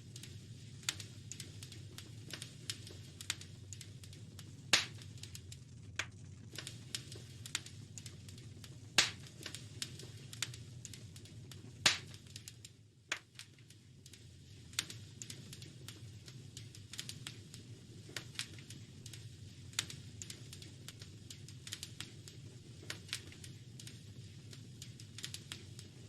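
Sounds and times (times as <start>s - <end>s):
loud pops of fire: 0.0s - 26.0s
wood fire crackling: 0.0s - 26.0s.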